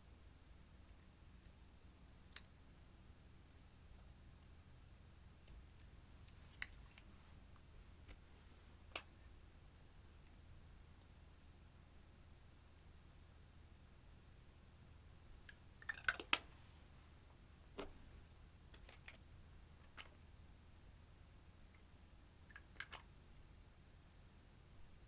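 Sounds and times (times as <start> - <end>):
faint low hum and hiss: 0.0 - 25.0.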